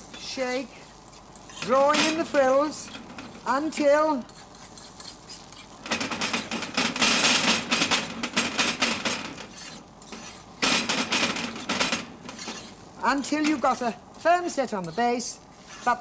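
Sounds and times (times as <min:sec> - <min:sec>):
fork scraping in metal pan: 0:00.8 - 0:16.0.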